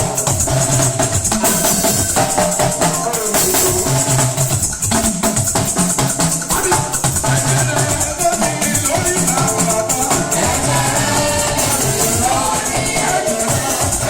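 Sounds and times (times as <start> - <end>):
church praise music: 0.0 - 14.0
drums: 0.0 - 14.0.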